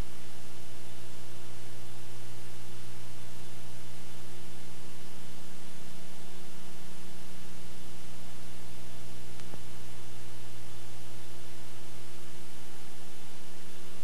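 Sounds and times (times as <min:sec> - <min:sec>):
electrical hum: 0:00.0 - 0:14.0
tape hiss: 0:00.0 - 0:14.0.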